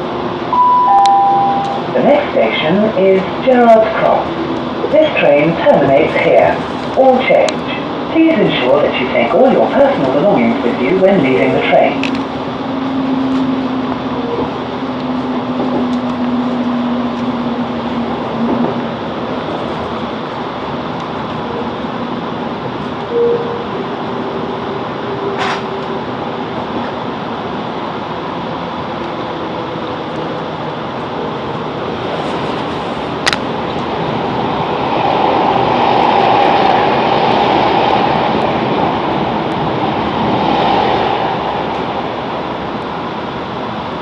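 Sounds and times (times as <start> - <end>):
train wheels and engine rumble: 0.0 - 44.0.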